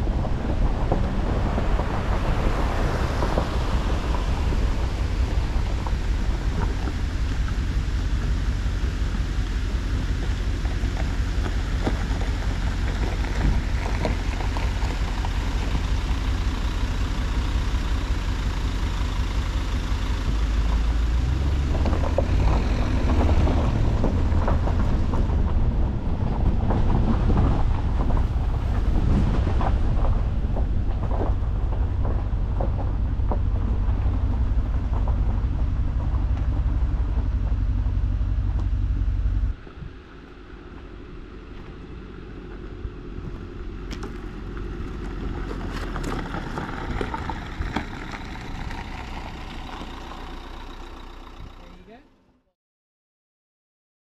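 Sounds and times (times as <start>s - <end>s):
vehicle rumbling on rough track: 0.0s - 52.5s.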